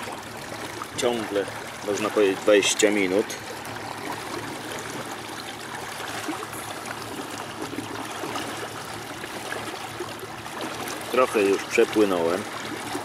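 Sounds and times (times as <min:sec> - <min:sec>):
water washing along hull: 0:00.0 - 0:13.0.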